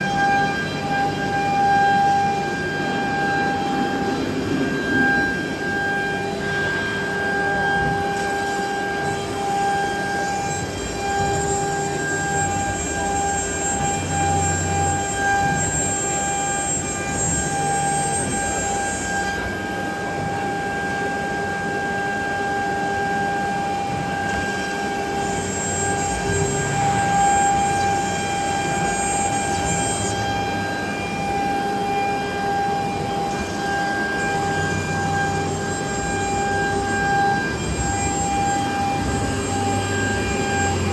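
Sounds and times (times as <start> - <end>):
machine and vacuum pump rumble: 0.0 - 40.9
router spindle high whine: 0.0 - 40.9.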